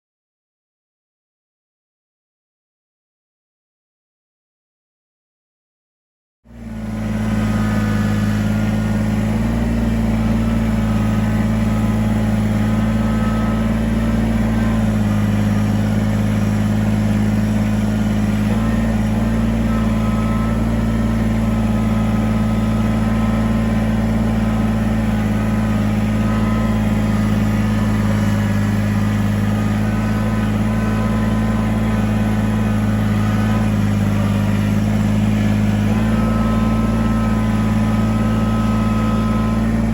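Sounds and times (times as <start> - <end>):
tractor diesel engine running: 6.5 - 39.9.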